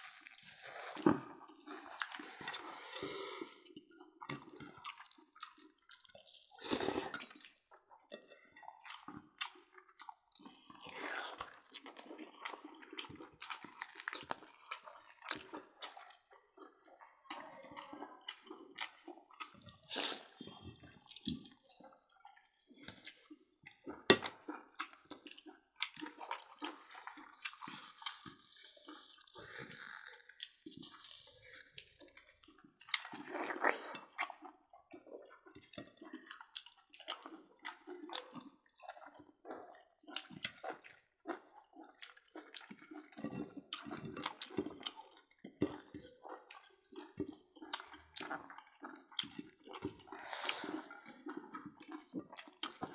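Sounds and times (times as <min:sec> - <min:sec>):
wet chewing: 0:00.0 - 0:52.9.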